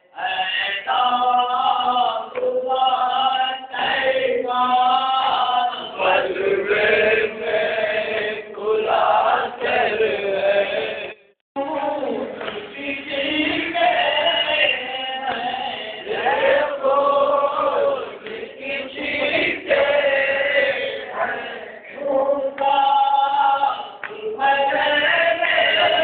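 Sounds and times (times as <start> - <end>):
men chanting in unison: 0.0 - 11.2, 12.0 - 26.0.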